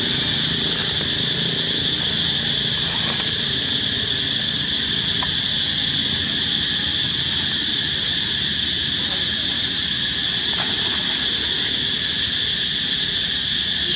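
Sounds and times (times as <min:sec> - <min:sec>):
low outdoor rumble: 0:00.0 - 0:13.0
insects chorus: 0:00.0 - 0:13.9.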